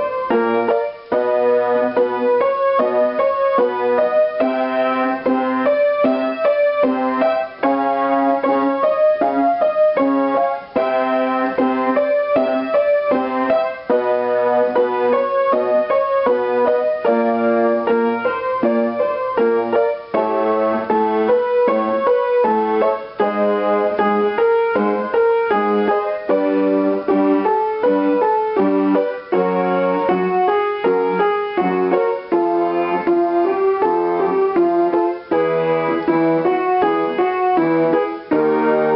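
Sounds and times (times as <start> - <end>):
electric piano sustained notes: 0.0 - 38.9.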